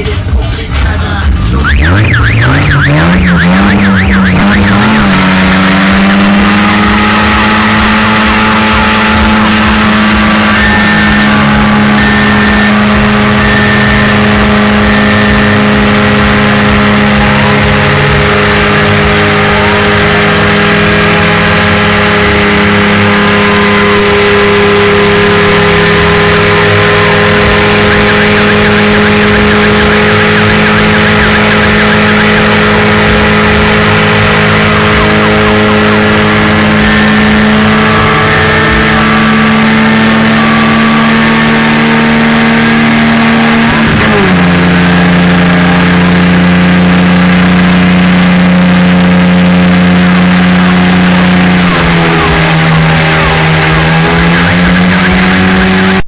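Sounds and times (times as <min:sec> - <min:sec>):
car engines revving high: 0:00.0 - 0:56.0.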